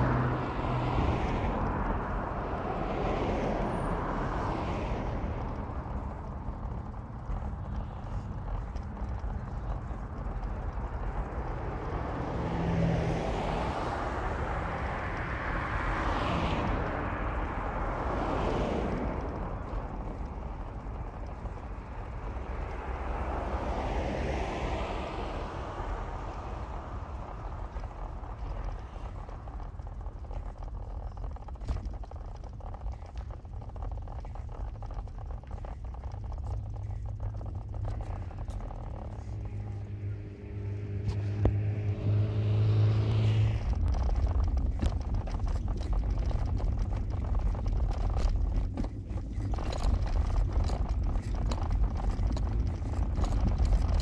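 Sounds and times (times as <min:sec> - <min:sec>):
vehicle and road rumble: 0:00.0 - 0:54.0
vehicles passing: 0:00.0 - 0:54.0.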